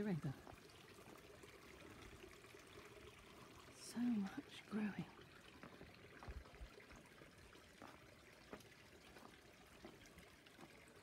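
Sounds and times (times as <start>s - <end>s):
faint water trickle: 0.0s - 11.0s.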